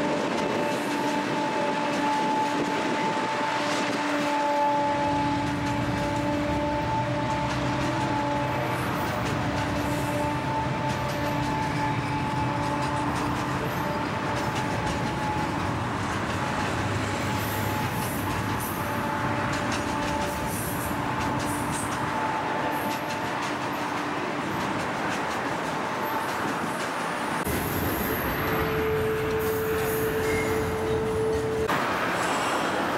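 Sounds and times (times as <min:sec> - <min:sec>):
diesel locomotive engine rumble: 0:00.0 - 0:32.9
train wheels rattling and clicking: 0:00.0 - 0:32.9.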